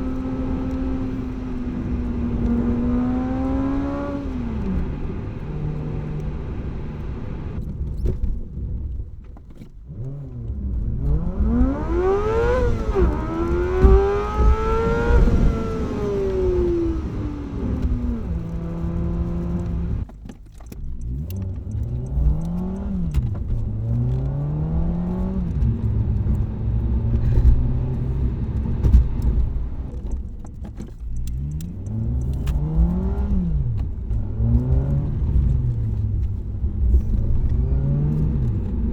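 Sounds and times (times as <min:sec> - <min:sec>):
car engine accelerating through gears: 0:00.0 - 0:20.1, 0:20.8 - 0:38.9.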